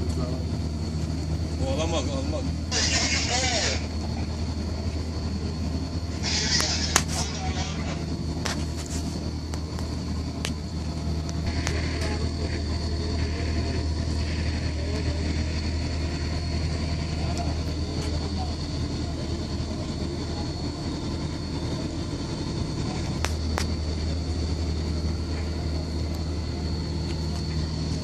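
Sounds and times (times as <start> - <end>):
diesel site machinery droning: 0.0 - 28.0
high whine: 0.0 - 28.0.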